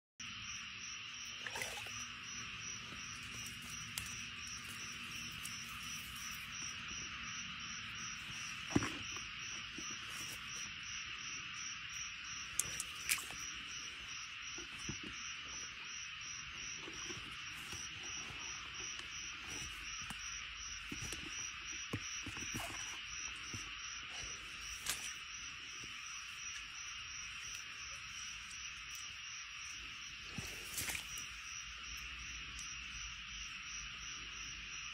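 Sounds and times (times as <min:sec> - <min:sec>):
crickets chirring: 0:00.2 - 0:34.9.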